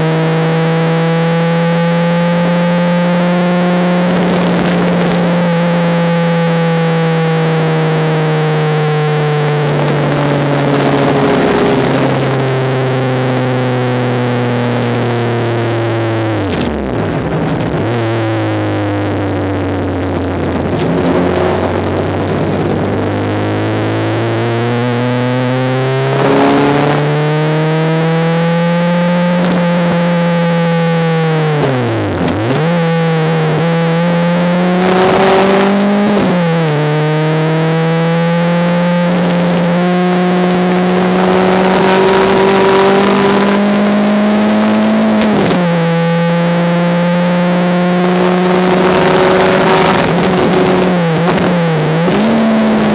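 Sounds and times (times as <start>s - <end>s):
race car engine shifting gears: 0.0s - 19.2s, 19.8s - 52.9s.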